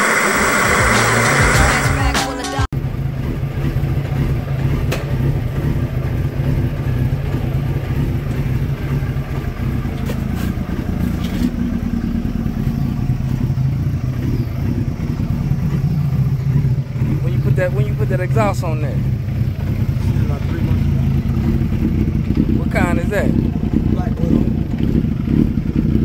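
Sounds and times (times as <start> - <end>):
motorcycle engine idling: 2.8 - 26.0.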